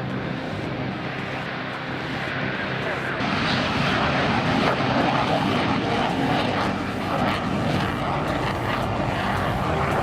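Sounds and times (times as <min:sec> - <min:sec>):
military aircraft engine rushing: 0:00.0 - 0:10.0.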